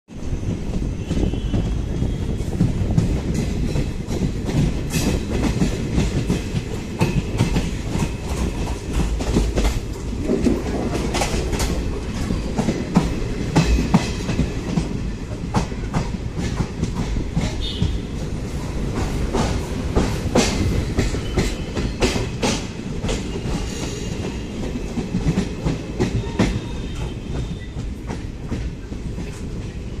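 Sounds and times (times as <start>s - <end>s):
rumble of wheels on rails: 0.1s - 30.0s
wheels clacking over rail joints: 2.6s - 29.8s.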